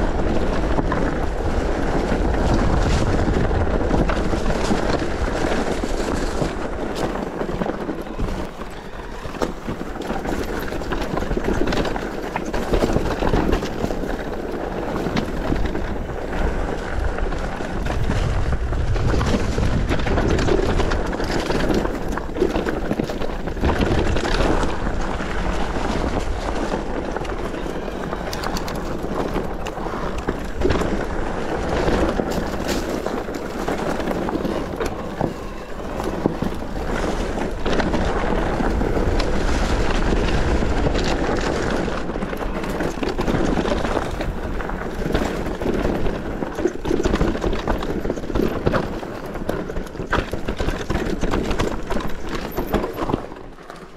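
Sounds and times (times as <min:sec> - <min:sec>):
bike frame and chain rattling: 0:00.0 - 0:53.9
tyres crunching over gravel: 0:00.0 - 0:53.9
wind rumbling on microphone: 0:00.0 - 0:53.9.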